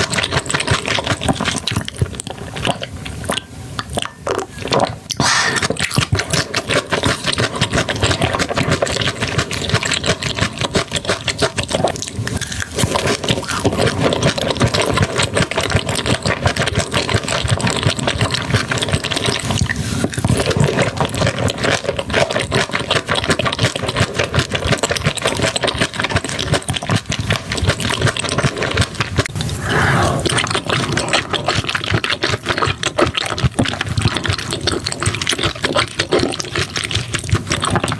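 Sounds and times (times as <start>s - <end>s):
wet chewing and crunching: 0.0s - 37.9s.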